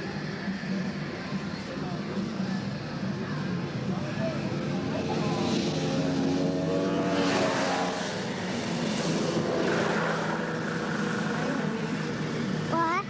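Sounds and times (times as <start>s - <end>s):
snowmobile engines droning: 0.0s - 13.0s.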